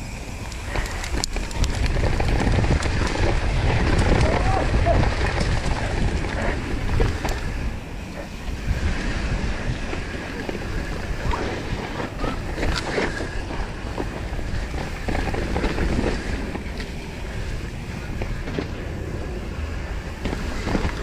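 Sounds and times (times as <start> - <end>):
bike clicks and rattles: 0.0 - 21.0
tyres on dirt: 0.0 - 21.0
wind rushing over microphone: 0.0 - 21.0.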